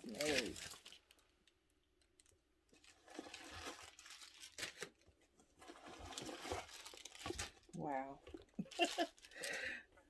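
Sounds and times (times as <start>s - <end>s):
packaging wrap crinkling: 0.0s - 9.8s.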